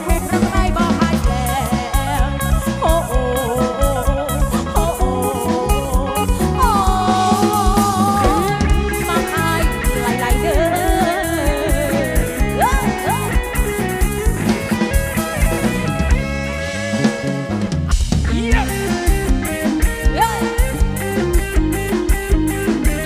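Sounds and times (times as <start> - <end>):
drum kit beat: 0.0 - 23.0
plucked electric lead guitar: 0.0 - 23.0.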